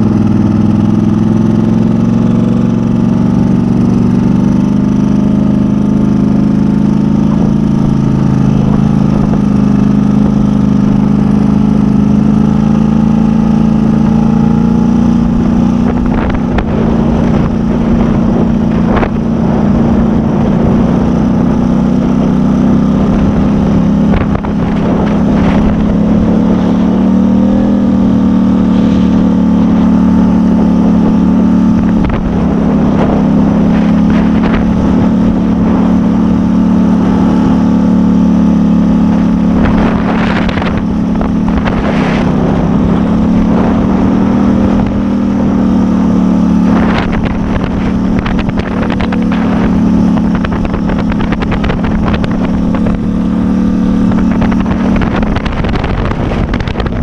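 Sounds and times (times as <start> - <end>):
loud engine running: 0.0 - 57.0.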